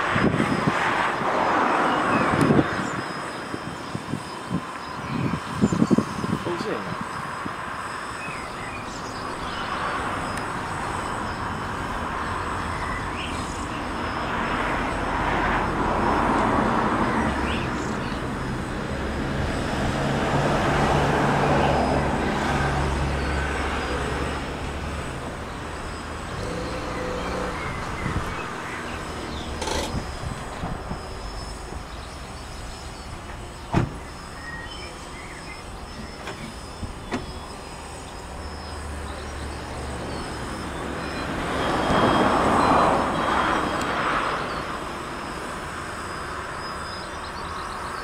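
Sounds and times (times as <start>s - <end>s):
quadcopter propellers buzzing: 0.0s - 48.0s.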